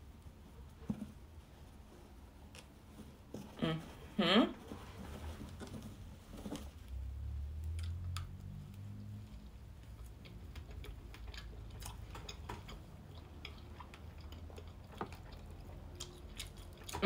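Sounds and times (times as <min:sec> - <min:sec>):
faint chewing: 0:00.6 - 0:03.6, 0:05.5 - 0:17.0.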